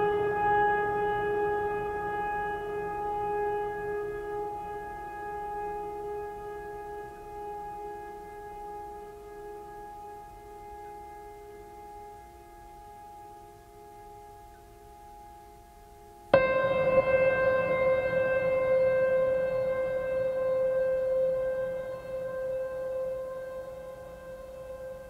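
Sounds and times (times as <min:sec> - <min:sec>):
droning held chord: 0:00.0 - 0:25.0.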